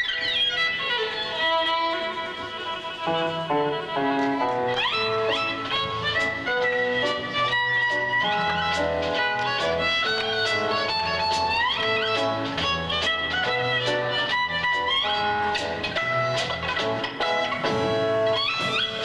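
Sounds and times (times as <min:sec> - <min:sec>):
rhythm guitar: 0:00.0 - 0:19.0
violin playing jazz melody: 0:00.0 - 0:19.0
plucked double bass: 0:03.1 - 0:19.0.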